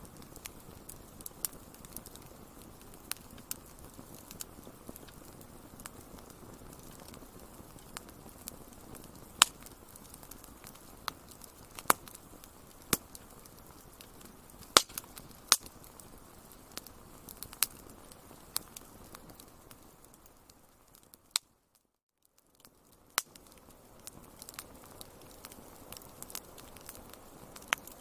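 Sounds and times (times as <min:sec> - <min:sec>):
hiss of flames: 0:00.0 - 0:21.4, 0:22.9 - 0:28.0
wood fire crackling: 0:00.0 - 0:28.0.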